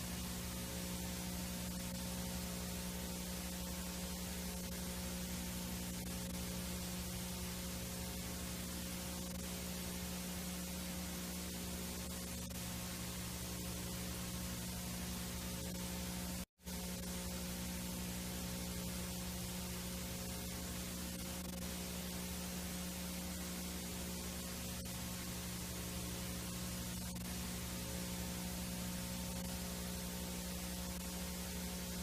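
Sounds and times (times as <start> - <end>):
low electrical hum: 0.0 - 32.0
tape hiss: 0.0 - 32.0.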